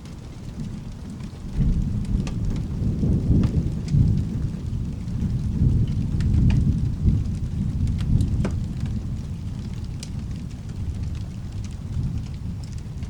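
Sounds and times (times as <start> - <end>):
rain falling: 0.0 - 13.0
rolling thunder: 0.0 - 13.0.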